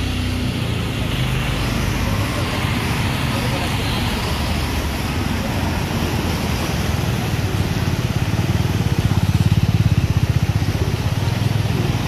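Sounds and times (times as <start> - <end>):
traffic through floodwater: 0.0 - 12.0.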